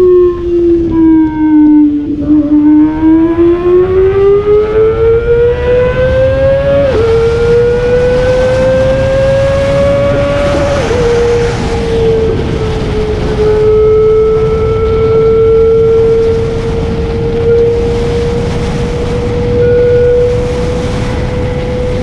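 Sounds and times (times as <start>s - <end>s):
motorcycle engine accelerating: 0.0s - 22.0s
wind rush: 0.0s - 22.0s.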